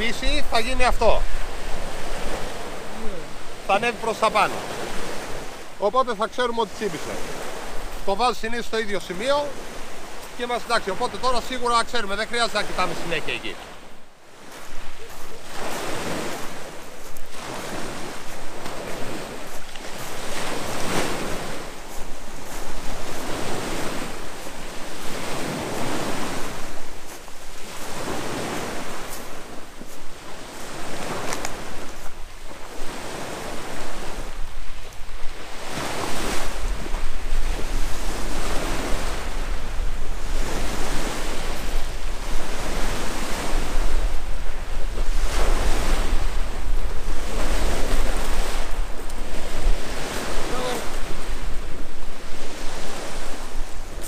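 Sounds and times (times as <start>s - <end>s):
sea waves washing onto shore: 0.0s - 54.0s
wind blowing over microphone: 0.0s - 54.0s.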